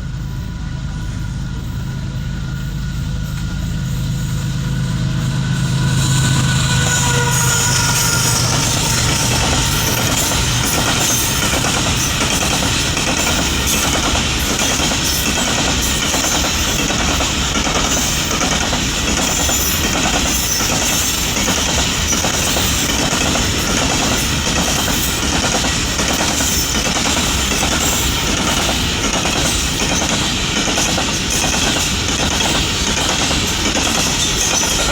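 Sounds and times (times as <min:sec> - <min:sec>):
loud vehicle running with clatter: 0:00.0 - 0:34.9.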